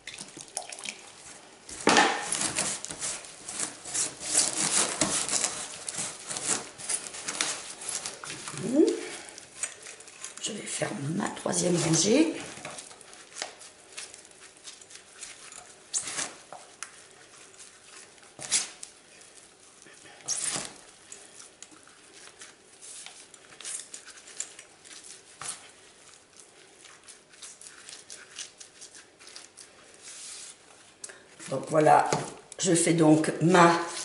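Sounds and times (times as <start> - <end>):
wet soil scraping and rustling: 2.2 - 32.0.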